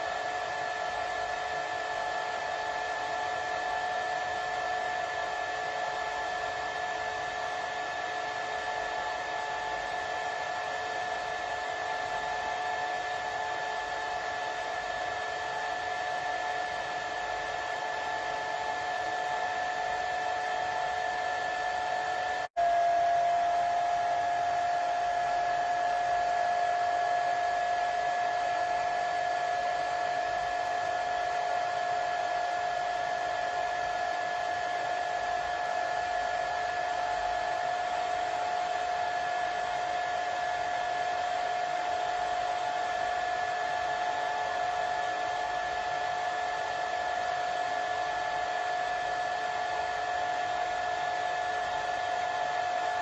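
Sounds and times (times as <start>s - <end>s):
hair dryer running: 0.0s - 53.0s.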